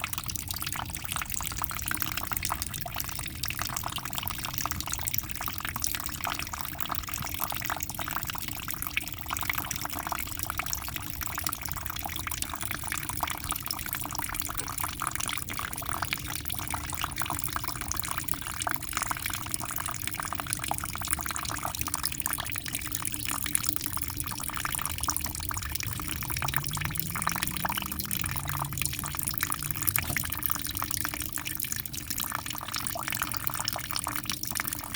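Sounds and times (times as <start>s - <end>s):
aquarium water bubbling: 0.0s - 34.9s.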